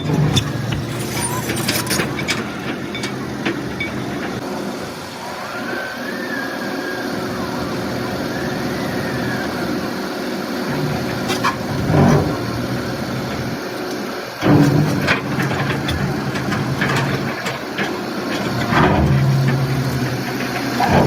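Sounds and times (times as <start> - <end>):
heavy vehicle engine running: 0.0 - 5.6, 6.9 - 21.0.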